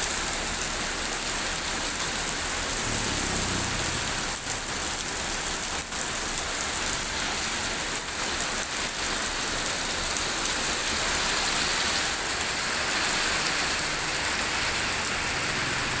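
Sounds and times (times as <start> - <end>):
rain falling steadily: 0.0 - 16.0.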